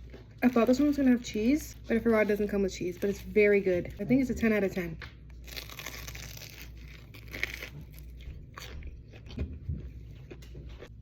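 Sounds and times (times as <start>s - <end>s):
crunching and chewing: 0.0s - 11.0s.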